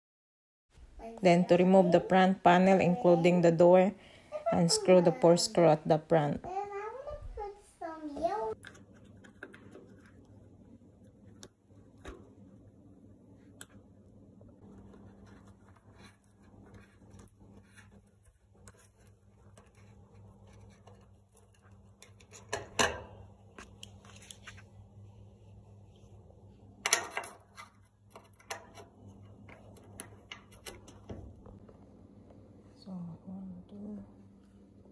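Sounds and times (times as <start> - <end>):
faint low hum: 0.8 - 34.9.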